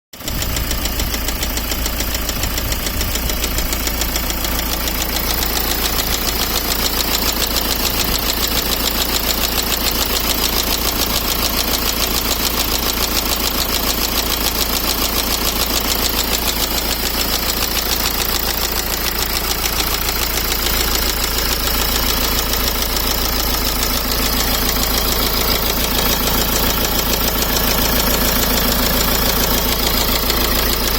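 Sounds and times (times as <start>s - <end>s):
diesel engine idling with knock: 0.2s - 30.9s.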